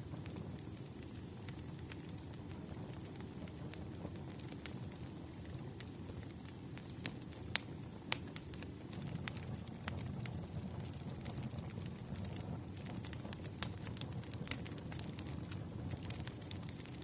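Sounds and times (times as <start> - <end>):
burning logs crackling and popping: 0.0 - 17.0
low rumble of flames: 0.0 - 17.0.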